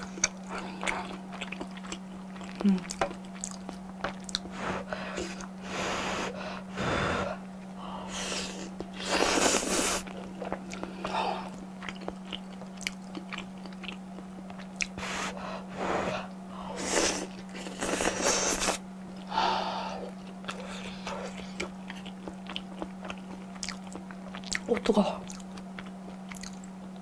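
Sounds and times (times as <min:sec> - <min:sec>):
chewing and crunching fried food: 0:00.0 - 0:05.6, 0:08.5 - 0:15.4, 0:16.6 - 0:27.0.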